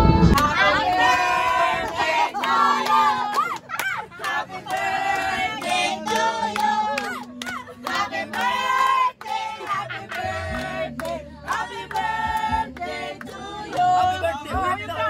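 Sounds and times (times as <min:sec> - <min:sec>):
group of people singing: 0:00.0 - 0:15.0.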